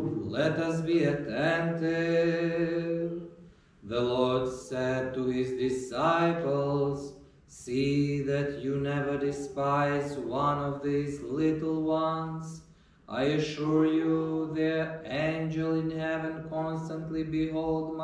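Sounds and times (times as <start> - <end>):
voices chanting: 0.0 - 3.2, 3.9 - 18.0.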